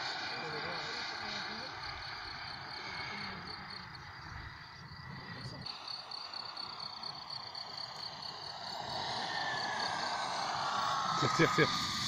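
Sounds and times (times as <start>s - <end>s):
crickets chirping: 0.0s - 12.0s
distant jet turbine whine: 0.0s - 12.0s.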